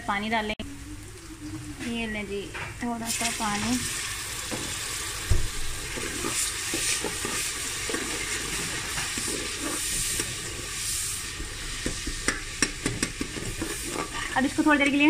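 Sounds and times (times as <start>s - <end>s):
masala sizzling in hot oil: 0.6s - 15.0s.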